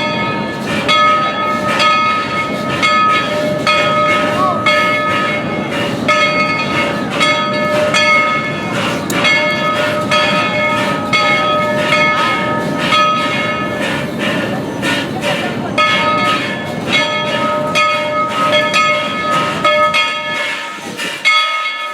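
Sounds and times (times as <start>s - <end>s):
locomotive bell ringing: 0.0s - 21.9s
steam locomotive rushing: 0.0s - 21.9s.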